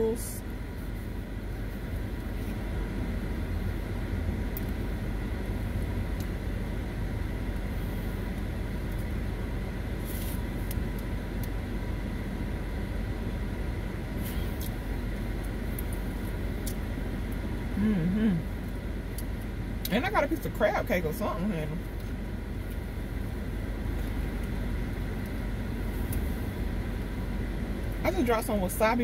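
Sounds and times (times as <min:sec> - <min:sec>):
air conditioning fan: 0:00.0 - 0:29.0
car engine idling: 0:00.0 - 0:29.0.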